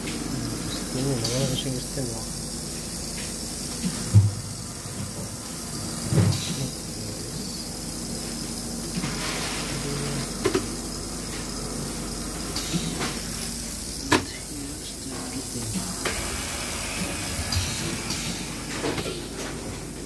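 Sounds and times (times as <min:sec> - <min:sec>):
low plumbing hum: 0:00.0 - 0:20.0
steam hissing: 0:00.0 - 0:20.0.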